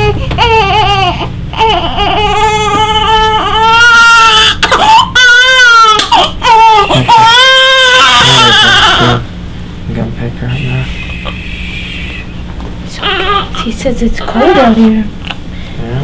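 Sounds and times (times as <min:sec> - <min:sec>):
newborn baby crying: 0:00.0 - 0:09.3, 0:10.6 - 0:15.1.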